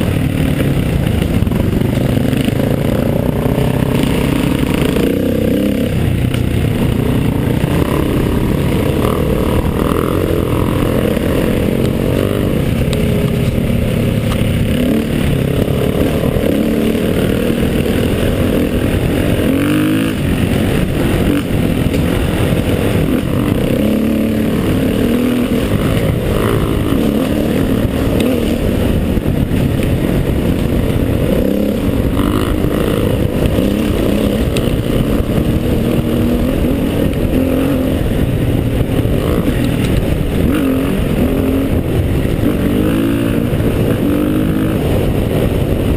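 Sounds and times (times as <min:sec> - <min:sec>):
motorcycle engine under load: 0:00.0 - 0:45.9.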